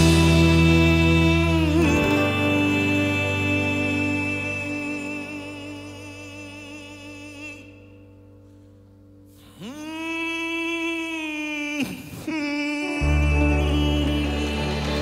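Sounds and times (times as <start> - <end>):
man singing ballad: 0.0 - 8.3, 9.3 - 15.0
ballad accompaniment: 0.0 - 15.0.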